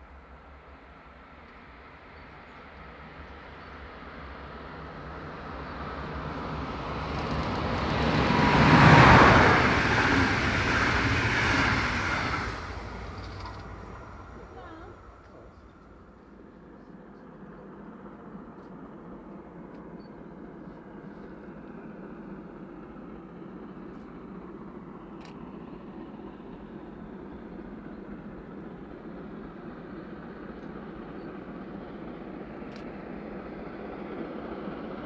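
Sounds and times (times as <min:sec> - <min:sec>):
distant train rumble: 0:00.0 - 0:35.0.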